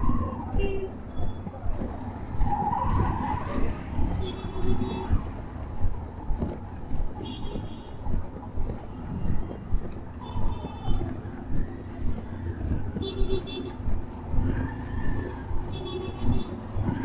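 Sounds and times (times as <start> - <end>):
auto-rickshaw engines rumbling: 0.0 - 17.0
street traffic: 0.0 - 17.0.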